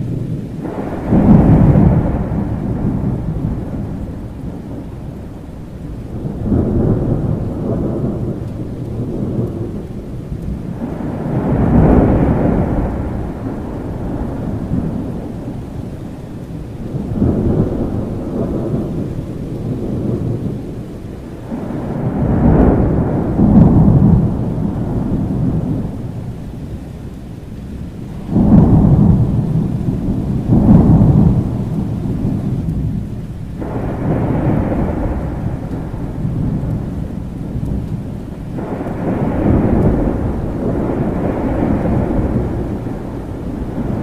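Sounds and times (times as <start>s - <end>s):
steady rain: 0.0s - 44.0s
thunder rumbling: 0.0s - 44.0s.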